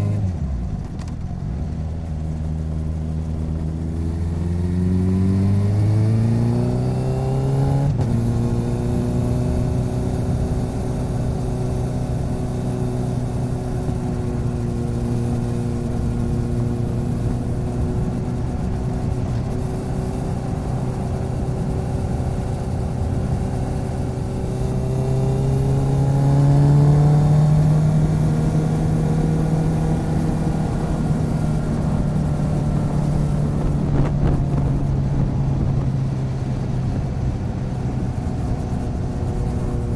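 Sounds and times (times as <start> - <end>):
motorcycle engine revving: 0.0 - 0.9, 2.2 - 39.9
wind and road noise: 0.0 - 39.9.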